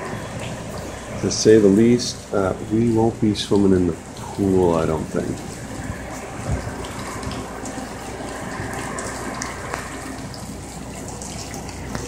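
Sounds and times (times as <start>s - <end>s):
rain falling: 0.0s - 12.0s
water running and splashing: 0.0s - 12.0s.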